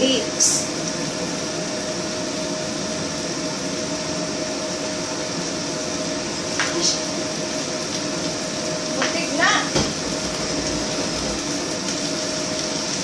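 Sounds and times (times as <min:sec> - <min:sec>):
rushing machine hum: 0:00.0 - 0:13.0.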